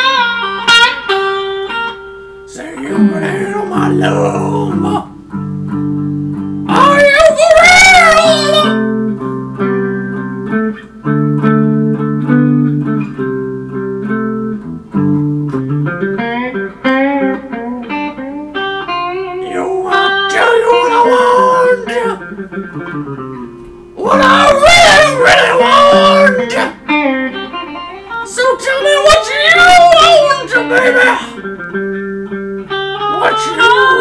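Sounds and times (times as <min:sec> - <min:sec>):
electric guitar chords: 0:00.0 - 0:28.3, 0:29.9 - 0:34.0.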